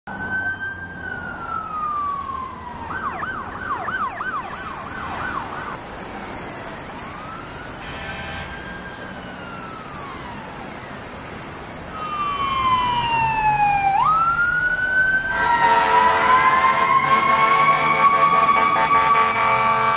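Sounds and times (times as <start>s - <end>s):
emergency vehicle sirens: 0.1s - 19.9s
traffic noise: 0.1s - 19.9s.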